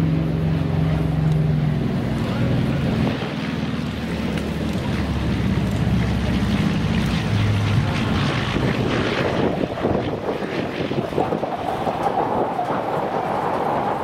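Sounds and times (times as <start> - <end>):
radial aircraft engine running: 0.0 - 14.0
wind on microphone: 0.0 - 14.0.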